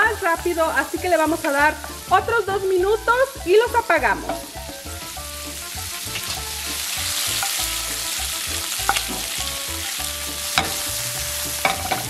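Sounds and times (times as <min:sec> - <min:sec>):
shrimp sizzling in a pan: 0:00.0 - 0:12.0.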